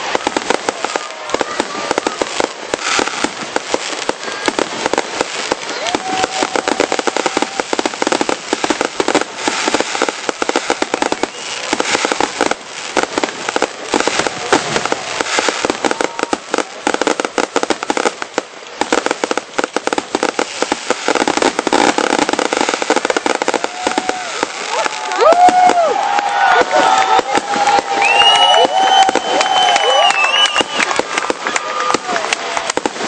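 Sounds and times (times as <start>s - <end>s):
fireworks cracking and popping: 0.0s - 33.0s.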